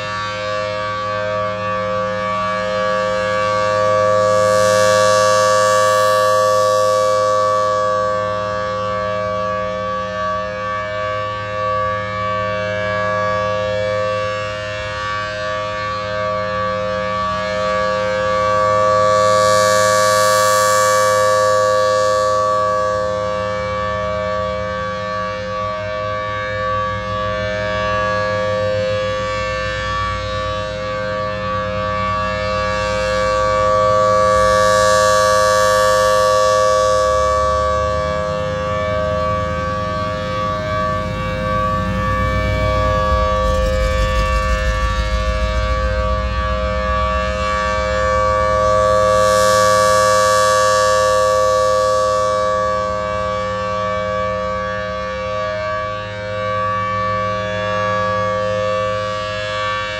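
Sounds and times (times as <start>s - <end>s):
warning siren two-note chord: 0.0s - 59.9s.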